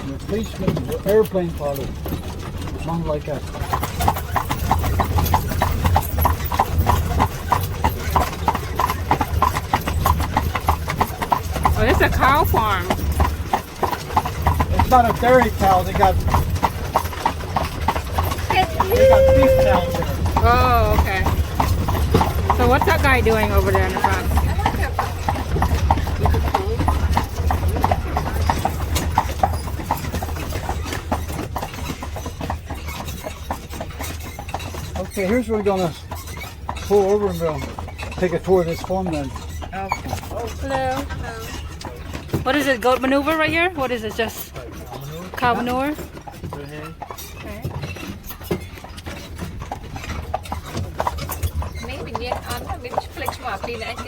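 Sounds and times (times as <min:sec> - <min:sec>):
horse hooves clip-clopping on road: 0:00.0 - 0:54.0
low rumble of buggy: 0:00.0 - 0:54.0.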